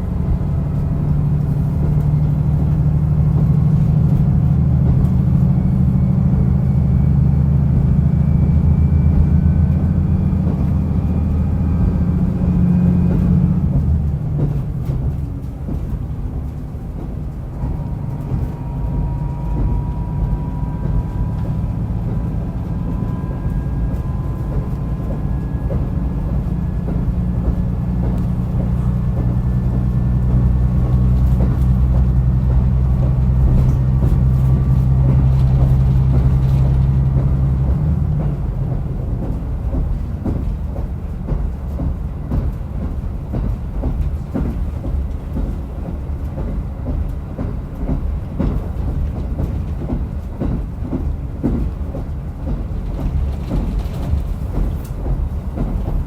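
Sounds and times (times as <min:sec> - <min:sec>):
diesel railcar engine: 0:00.0 - 0:56.0
wheels clacking over rail joints: 0:09.4 - 0:56.0.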